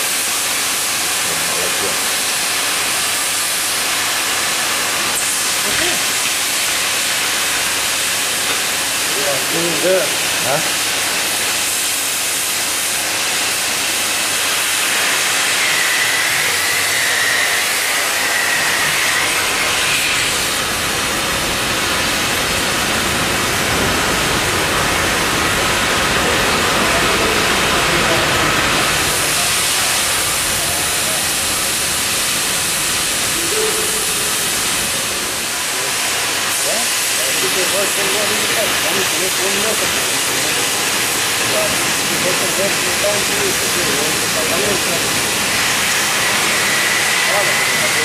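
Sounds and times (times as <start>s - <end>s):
cutting torch hissing: 0.0s - 48.0s.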